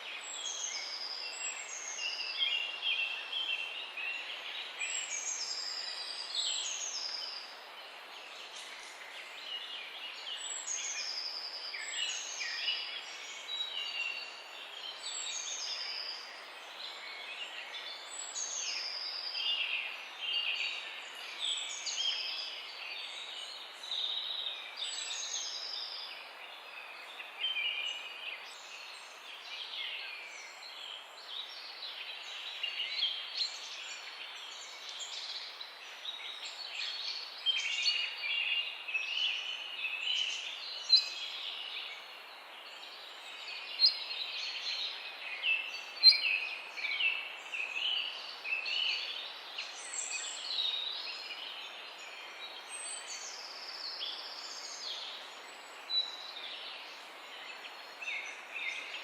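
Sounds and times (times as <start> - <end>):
songbirds singing: 0.0 - 59.0
steady background hiss: 0.0 - 59.0.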